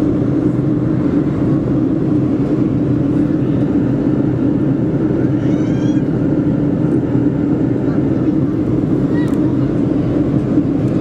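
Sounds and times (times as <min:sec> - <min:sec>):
air rushing along fuselage: 0:00.0 - 0:11.0
jet engines droning: 0:00.0 - 0:11.0.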